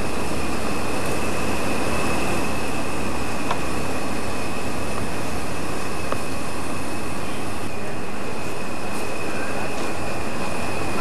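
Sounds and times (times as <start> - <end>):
crane engine running: 0.0 - 11.0
high whine: 0.0 - 11.0.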